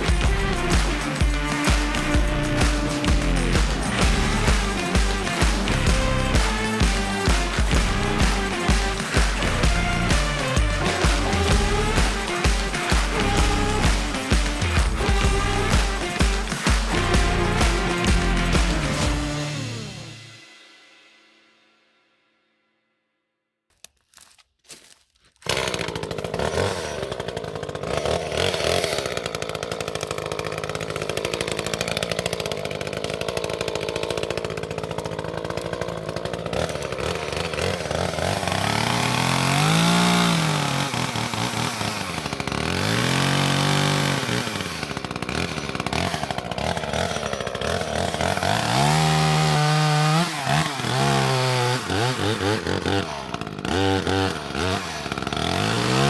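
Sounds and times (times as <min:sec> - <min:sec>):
chainsaw revving: 0:00.0 - 0:20.7, 0:24.2 - 0:56.0.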